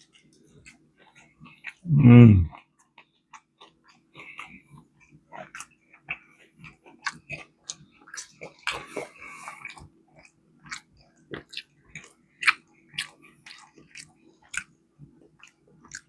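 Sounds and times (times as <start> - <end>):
chewing and biting chicken: 0.0 - 16.0.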